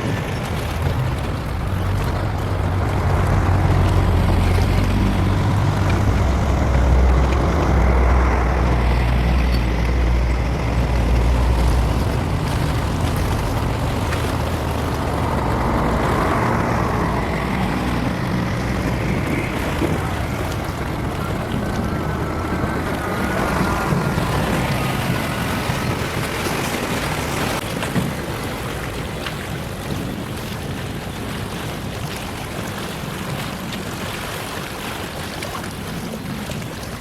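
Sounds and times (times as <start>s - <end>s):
boat engine rumble: 0.0s - 37.0s
water noise: 0.0s - 37.0s
wind: 0.0s - 37.0s.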